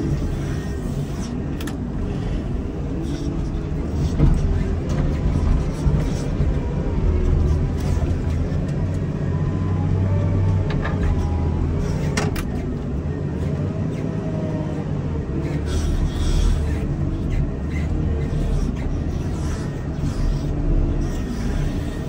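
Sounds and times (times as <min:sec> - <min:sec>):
wheel loader diesel engine running: 0:00.0 - 0:22.0.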